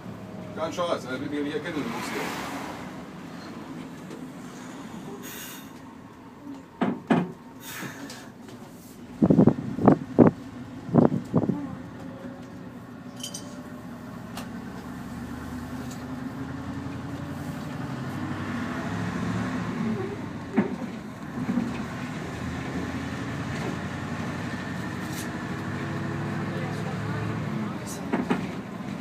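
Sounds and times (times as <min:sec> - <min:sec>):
bus engine humming: 0:00.0 - 0:29.0.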